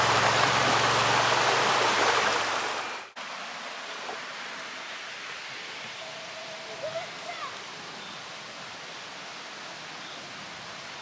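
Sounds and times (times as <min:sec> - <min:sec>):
quiet outdoor background: 0:00.0 - 0:11.0
stream water rushing: 0:00.0 - 0:11.0.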